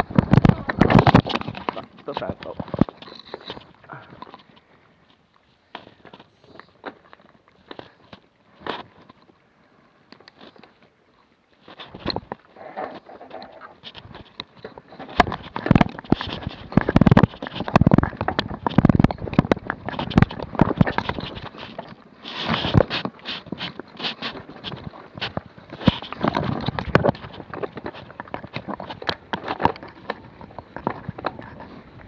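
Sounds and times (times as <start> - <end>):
mountain bike rattling on rocks: 0.0 - 9.4, 11.6 - 32.0.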